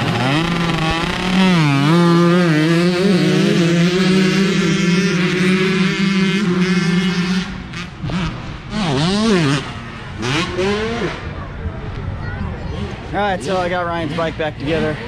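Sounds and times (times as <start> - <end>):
motocross bikes accelerating: 0.0 - 15.0.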